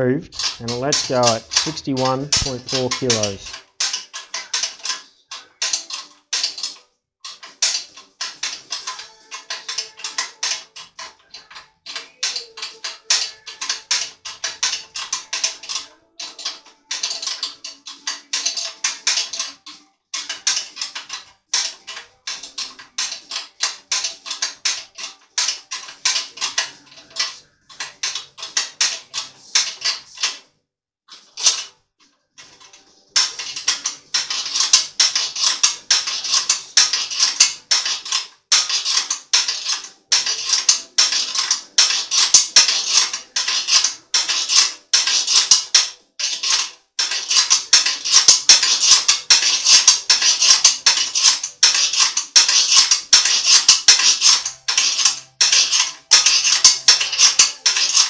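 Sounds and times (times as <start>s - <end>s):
rapid metallic clicking: 0.3s - 30.4s, 31.2s - 31.7s, 33.2s - 58.0s.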